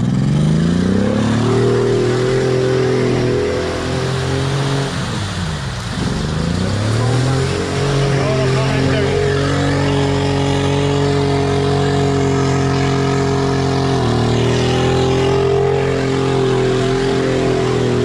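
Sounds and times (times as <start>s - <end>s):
engine revving under load: 0.0s - 18.0s.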